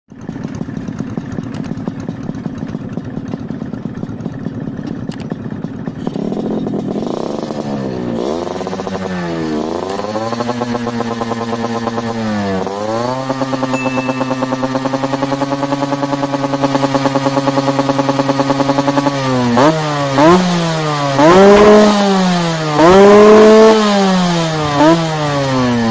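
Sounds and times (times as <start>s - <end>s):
motorcycle engine idling and revving: 0.1s - 25.9s.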